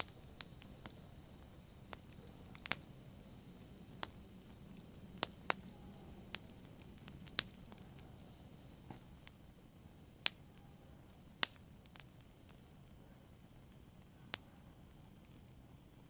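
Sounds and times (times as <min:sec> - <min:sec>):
burning hiss: 0:00.0 - 0:16.0
wood fire crackling: 0:00.0 - 0:16.0.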